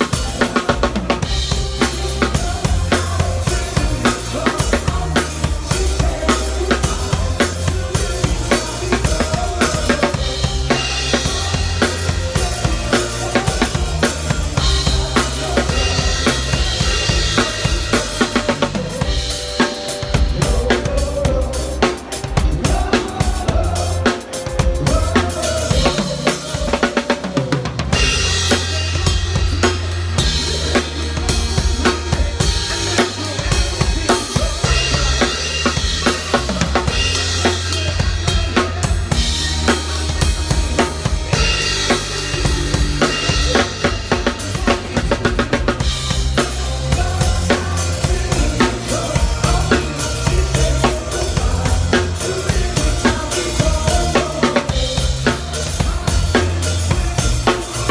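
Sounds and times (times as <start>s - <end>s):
recorded pop song: 0.0s - 57.9s.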